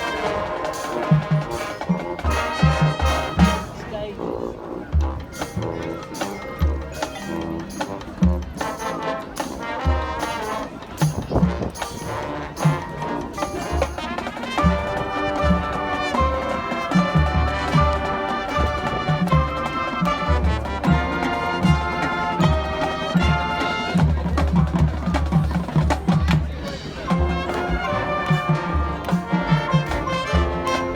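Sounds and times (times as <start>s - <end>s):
brass playing chords: 0.0s - 6.0s, 6.6s - 25.7s, 27.1s - 30.9s.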